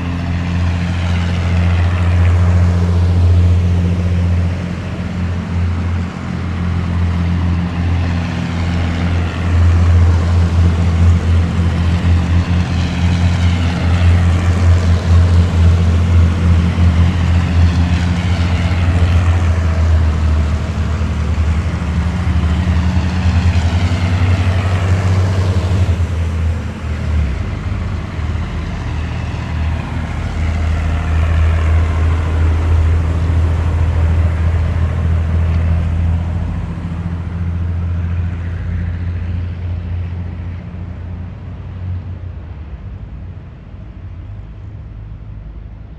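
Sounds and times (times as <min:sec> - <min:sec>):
heavy vehicles driving past: 0:00.0 - 0:45.9.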